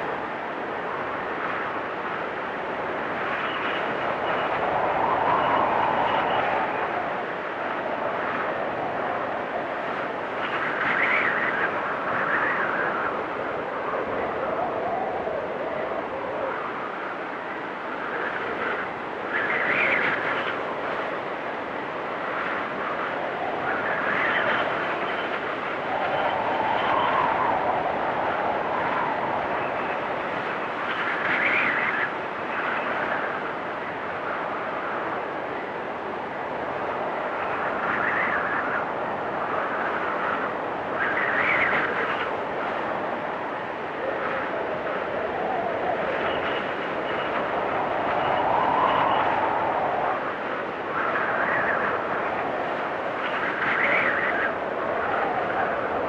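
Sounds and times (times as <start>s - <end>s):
storm wind gusting: 0.0s - 56.0s.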